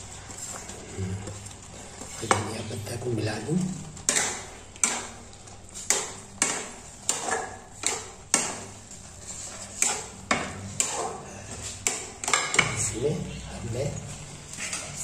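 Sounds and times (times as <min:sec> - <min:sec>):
spatula scraping a frying pan: 0:00.0 - 0:12.9, 0:14.2 - 0:15.0.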